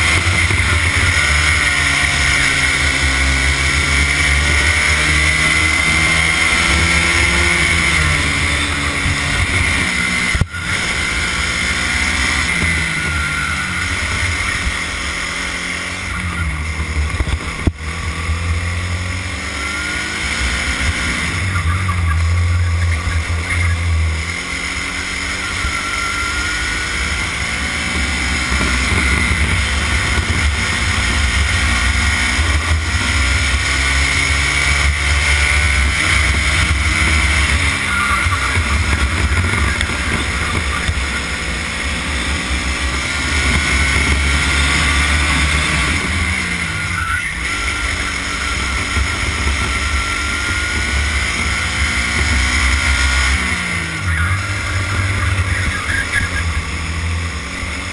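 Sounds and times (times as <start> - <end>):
racing kart engine: 0.0 - 57.9.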